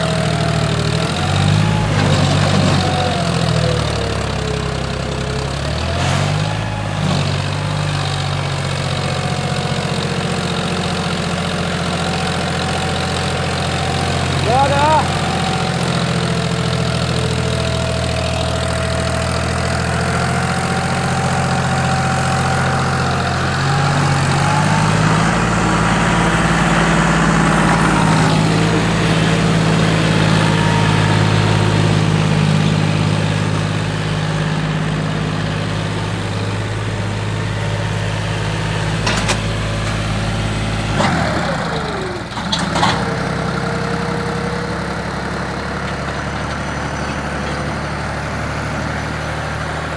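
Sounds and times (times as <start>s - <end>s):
tractor diesel engine: 0.0s - 49.9s.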